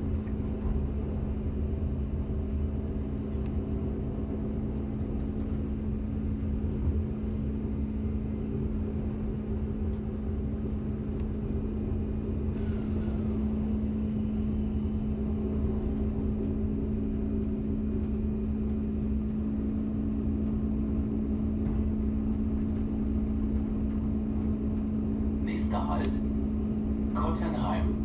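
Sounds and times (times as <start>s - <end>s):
diesel train engine drone: 0.0s - 28.0s
wheels rumbling on track: 0.0s - 28.0s.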